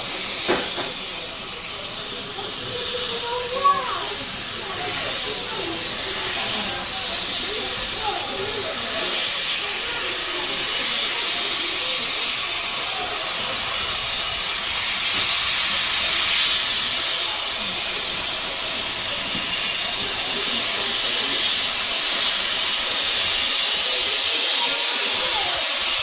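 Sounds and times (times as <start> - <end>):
loud hiss of escaping steam: 0.0 - 26.0
steam locomotive running: 0.0 - 26.0.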